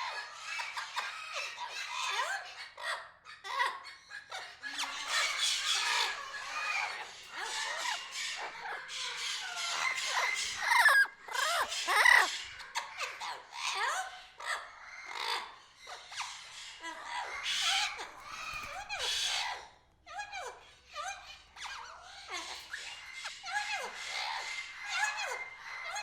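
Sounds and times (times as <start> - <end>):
birds chirping and squawking: 0.0 - 26.0.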